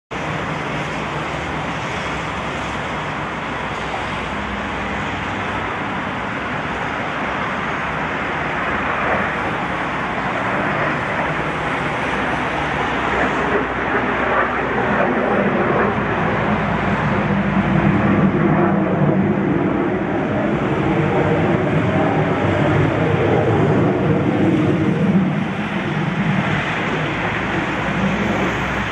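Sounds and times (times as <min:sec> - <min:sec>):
jet aircraft rushing noise: 0:00.1 - 0:28.9.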